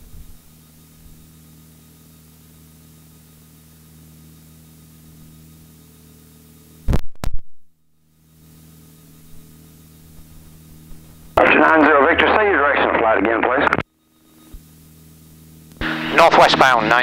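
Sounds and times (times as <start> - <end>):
aircraft engine drone: 0.0 - 6.8, 8.0 - 17.0.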